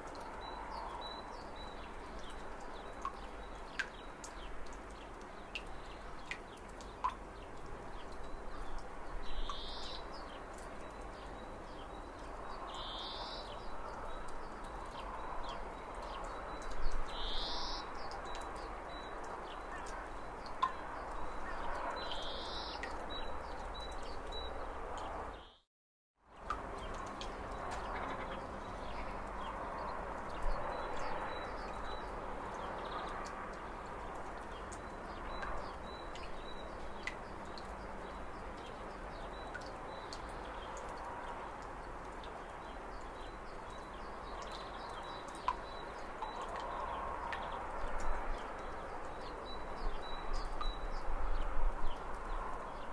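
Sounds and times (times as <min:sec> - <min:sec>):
outdoor background noise: 0:00.0 - 0:52.9.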